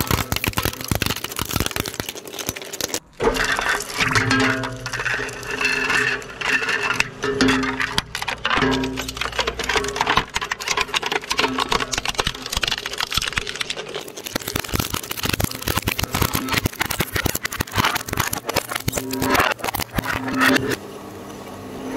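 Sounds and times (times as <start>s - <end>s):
plastic cracking in shredder: 0.0s - 20.8s.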